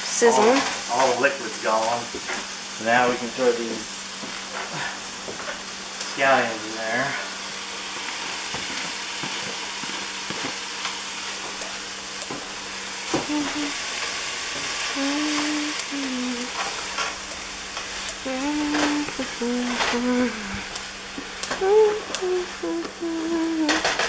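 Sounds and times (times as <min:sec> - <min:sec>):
vegetables sizzling in a skillet: 0:00.0 - 0:24.0.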